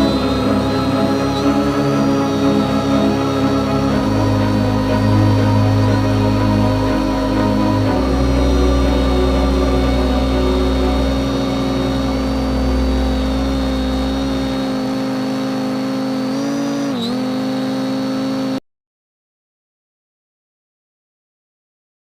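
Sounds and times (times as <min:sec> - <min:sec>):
drone propellers whirring: 0:00.0 - 0:18.6.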